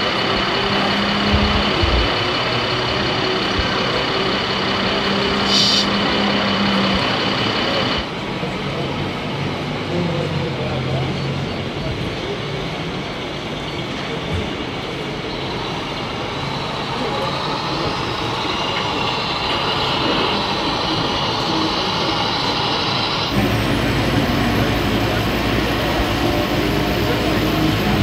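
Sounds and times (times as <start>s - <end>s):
crowded hall din: 0.0s - 28.0s
diesel truck engine sound: 0.0s - 28.0s.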